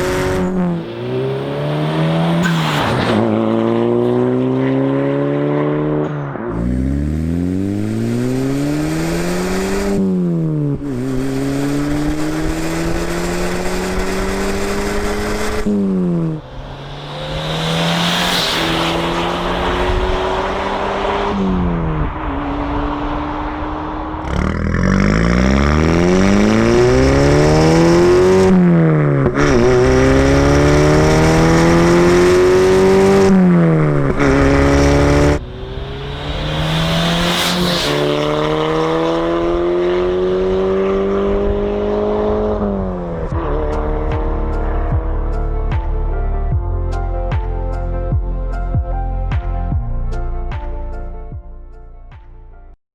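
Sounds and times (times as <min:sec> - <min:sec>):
car engine accelerating: 0:00.0 - 0:46.2.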